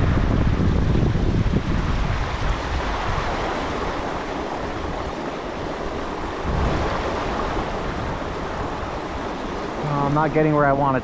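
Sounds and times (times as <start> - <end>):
creek water rushing: 0.0 - 11.0
wind buffeting microphone: 0.0 - 11.0.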